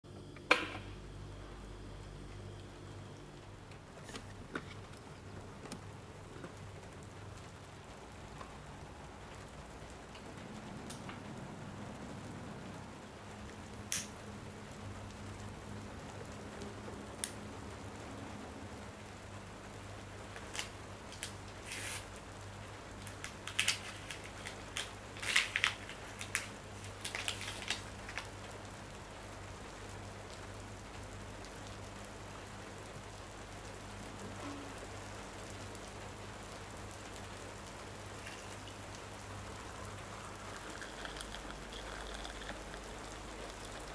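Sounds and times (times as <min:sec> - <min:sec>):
low even hum: 0:00.0 - 0:21.6, 0:27.9 - 0:43.9
steady rain: 0:00.0 - 0:43.9.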